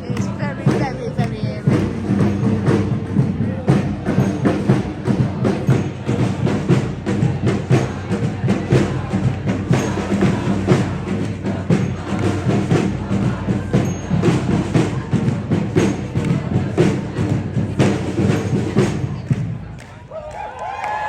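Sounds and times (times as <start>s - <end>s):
drums beating: 0.0s - 20.4s
marching crowd: 0.0s - 21.0s.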